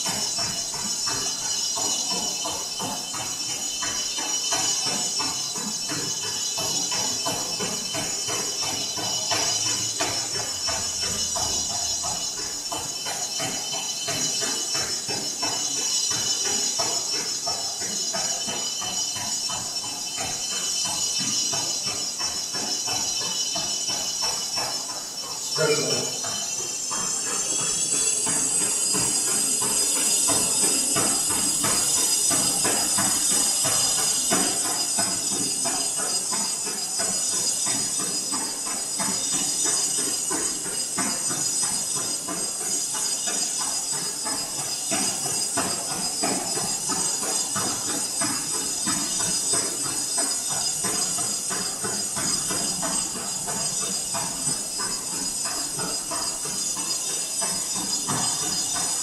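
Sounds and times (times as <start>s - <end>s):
treadmill motor whine: 0.0s - 59.0s
running shoes thudding on belt: 0.1s - 59.0s.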